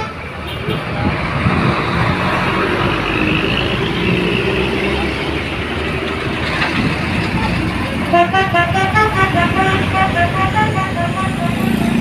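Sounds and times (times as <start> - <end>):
bus driving past: 0.1 - 12.0.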